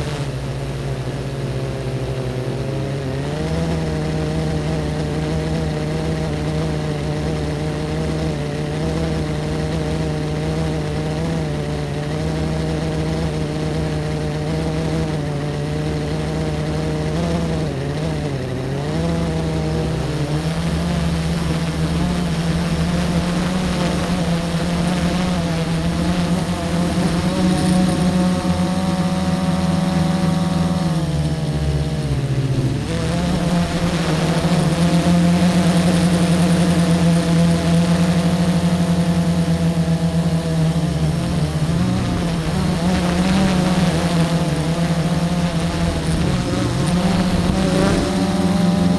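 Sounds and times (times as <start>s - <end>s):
car engine running: 0.0s - 48.9s
road hum: 0.0s - 48.9s.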